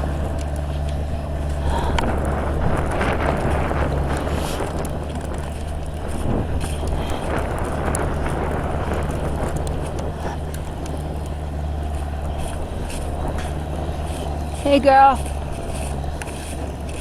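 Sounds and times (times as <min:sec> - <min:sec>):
skid steer engine running: 0:00.0 - 0:17.0
wind on microphone: 0:00.0 - 0:17.0.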